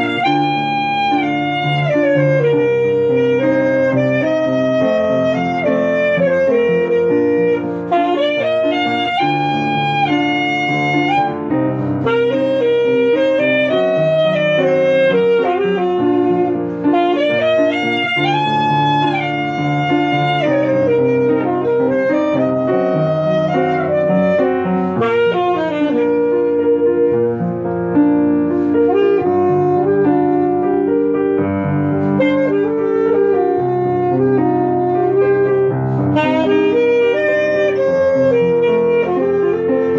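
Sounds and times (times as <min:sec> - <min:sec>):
alto saxophone melody: 0:00.0 - 0:39.9
grand piano accompaniment: 0:00.0 - 0:39.9.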